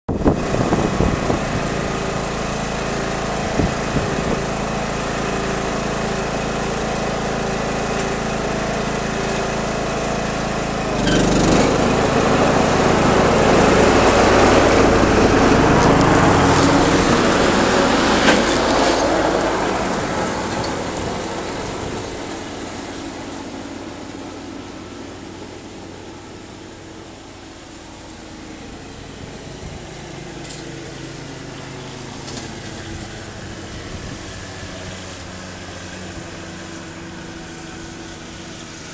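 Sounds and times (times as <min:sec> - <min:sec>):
lawn mower engine running: 0:00.1 - 0:38.9.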